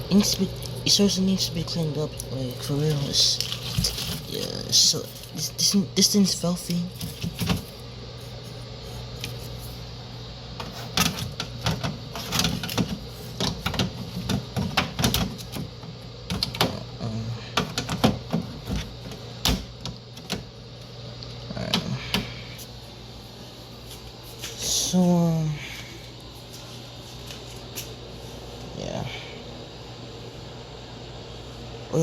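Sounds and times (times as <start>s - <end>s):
fan humming: 0.0s - 32.0s.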